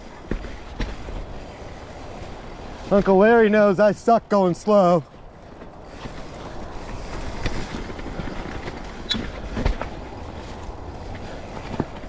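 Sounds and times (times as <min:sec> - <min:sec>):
bike knocks and rattles: 0:00.0 - 0:03.3, 0:05.3 - 0:12.0
bike tyres rumbling on dirt trail: 0:00.0 - 0:12.0.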